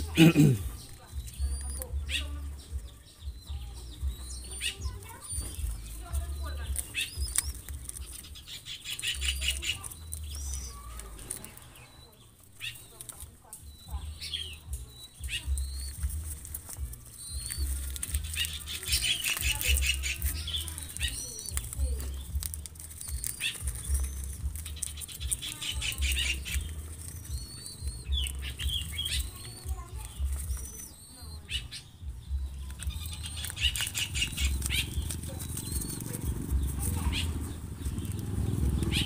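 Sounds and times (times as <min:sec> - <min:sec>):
high bird chirps: 0:00.0 - 0:39.0
doves flapping wings: 0:03.9 - 0:31.4, 0:32.5 - 0:39.0.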